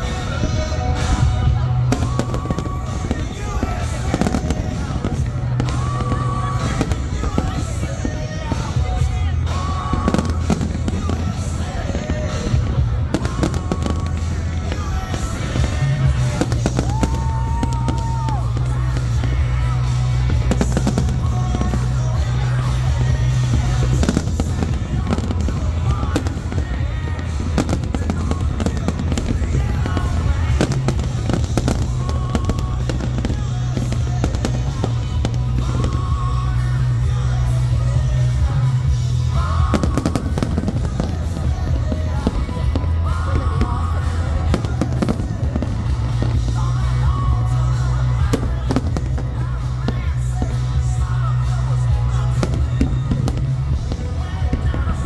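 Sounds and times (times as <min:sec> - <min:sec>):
crowd voices: 0:00.0 - 0:55.0
deep rumble of booms: 0:00.0 - 0:55.0
fireworks cracking and banging: 0:00.0 - 0:55.0
music: 0:00.0 - 0:55.0.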